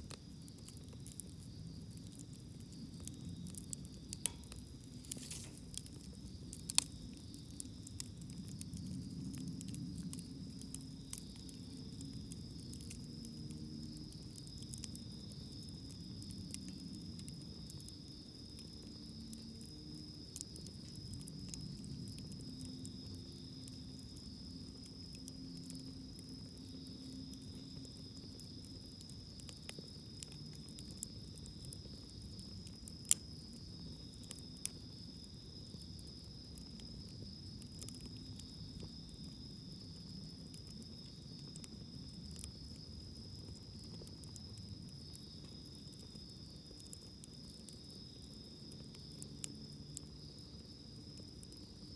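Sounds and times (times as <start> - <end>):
campfire crackling and popping: 0.0 - 51.9
insects trilling: 0.0 - 51.9.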